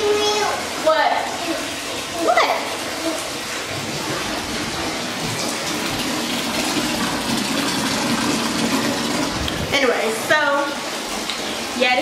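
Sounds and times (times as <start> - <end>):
bathtub tap running: 0.0 - 12.0.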